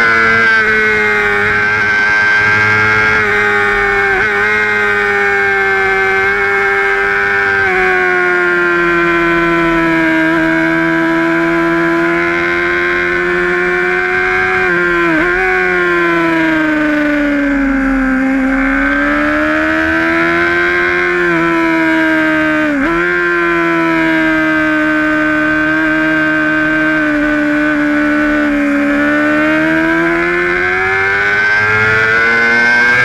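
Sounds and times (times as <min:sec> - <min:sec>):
motorcycle engine at high revs: 0:00.0 - 0:33.0.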